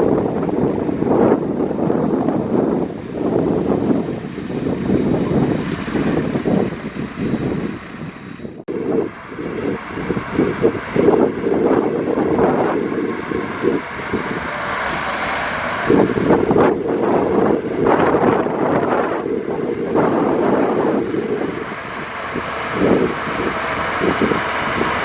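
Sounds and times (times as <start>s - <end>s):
heavy machinery running: 0.0s - 25.0s
wind buffeting microphone: 0.0s - 25.0s.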